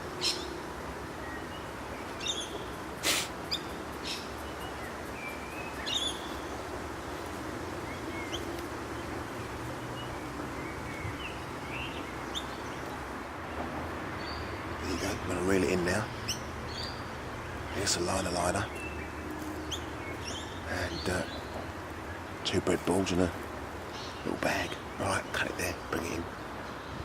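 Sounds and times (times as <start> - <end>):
small birds chirping: 0.0 - 27.0
steady background hiss: 0.0 - 27.0.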